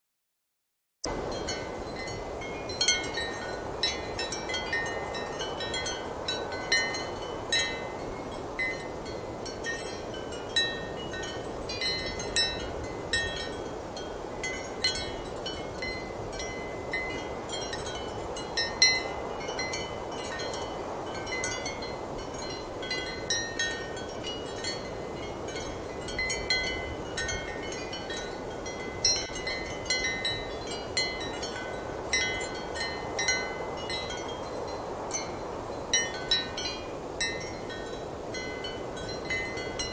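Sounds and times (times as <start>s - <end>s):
ceramic wind chimes ringing: 1.1s - 39.9s.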